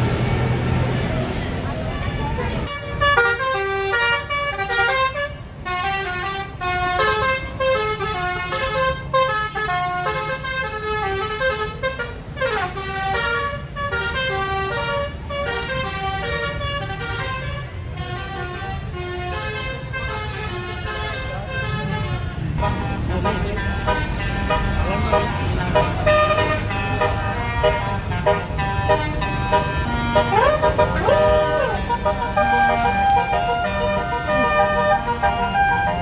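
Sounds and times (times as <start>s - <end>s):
horn playing melody: 2.6s - 36.0s.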